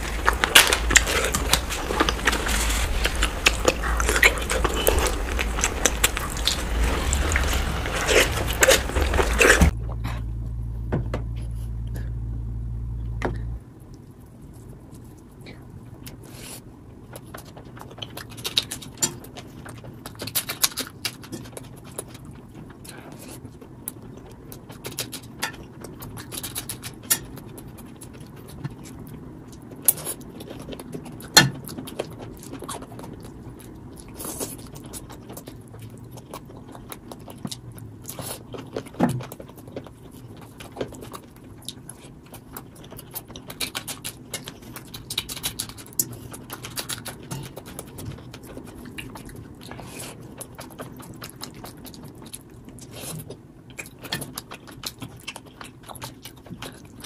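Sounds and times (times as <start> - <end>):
wet chewing and lip-smacking: 0.0 - 10.1, 13.8 - 57.0.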